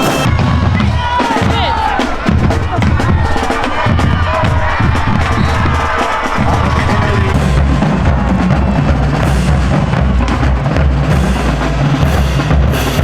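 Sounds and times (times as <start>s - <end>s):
loud music with drum beat: 0.0s - 13.0s
deep bass drum: 0.2s - 13.0s.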